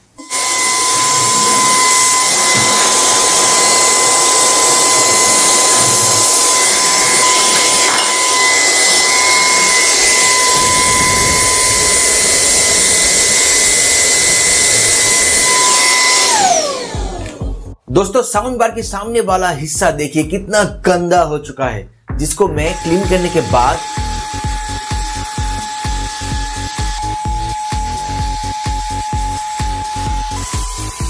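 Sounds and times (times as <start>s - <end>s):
mini vacuum cleaner whining: 0.0s - 17.6s, 22.7s - 31.0s.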